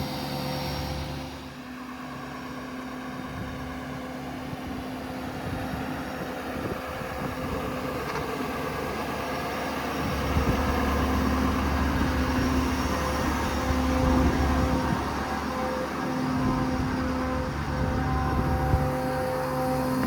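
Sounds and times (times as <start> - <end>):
crane hydraulics humming: 0.0 - 20.0
diesel engine running: 0.0 - 20.0.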